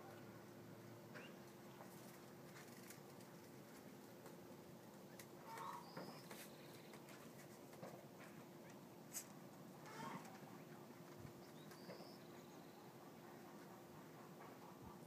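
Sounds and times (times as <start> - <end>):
faint distant bird calls: 0.0 - 4.0, 4.6 - 15.0
faint steady hum: 0.0 - 15.0.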